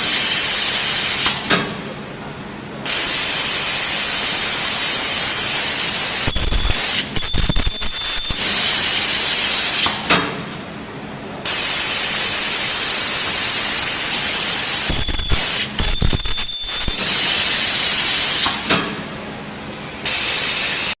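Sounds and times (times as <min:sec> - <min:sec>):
welding machine hiss: 0:00.0 - 0:01.6, 0:02.8 - 0:10.3, 0:11.4 - 0:19.0, 0:19.6 - 0:21.0.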